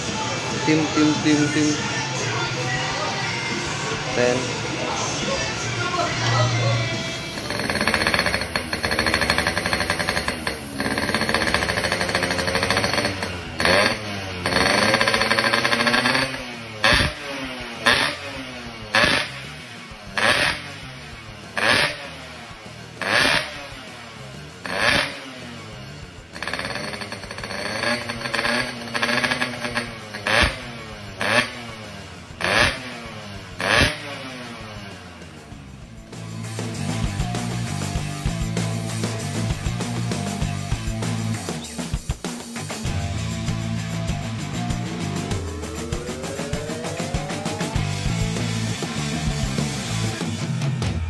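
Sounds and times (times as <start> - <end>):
two-stroke motorcycle engine revving: 5.9 - 51.0.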